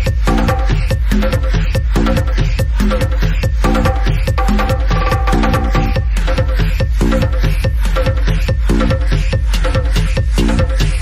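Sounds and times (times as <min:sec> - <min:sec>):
deep bass line: 0:00.0 - 0:11.0
electronic dance music: 0:00.0 - 0:11.0
kick drum: 0:00.0 - 0:11.0.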